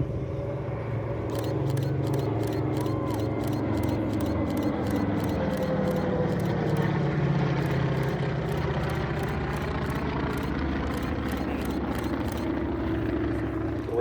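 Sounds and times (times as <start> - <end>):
propeller aircraft drone: 0.0 - 14.0.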